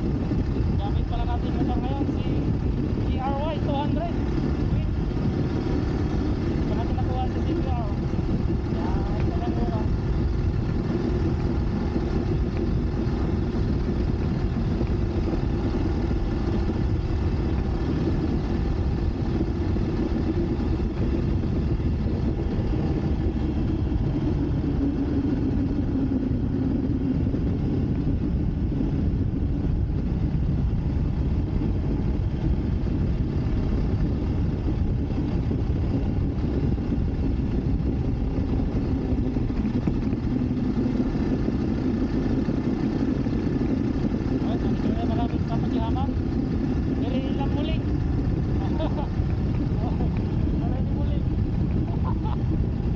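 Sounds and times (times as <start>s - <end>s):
motorcycle engine running: 0.0s - 52.9s
wind noise: 0.0s - 52.9s.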